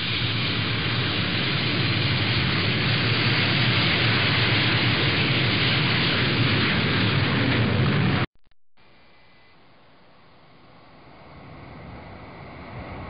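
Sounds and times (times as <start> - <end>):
aircraft engine hiss and rumble: 0.0 - 13.0.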